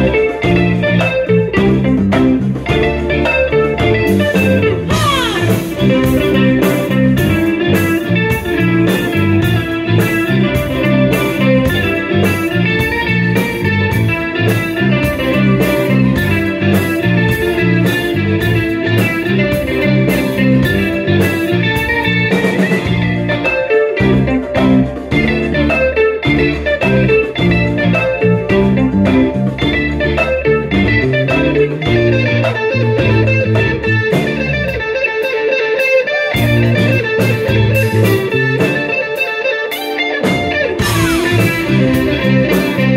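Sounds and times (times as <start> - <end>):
drum kit beat: 0.0 - 42.9
electric guitar melody: 0.0 - 42.9.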